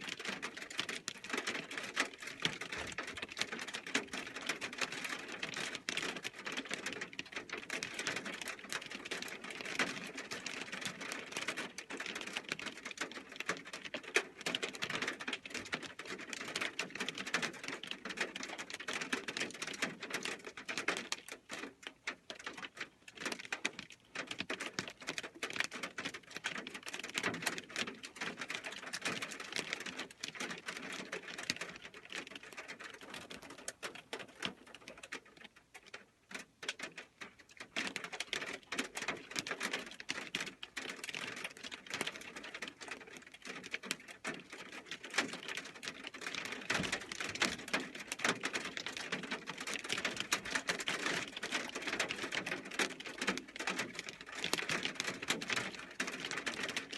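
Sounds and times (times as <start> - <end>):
hail and rain on metal roof: 0.0 - 56.9.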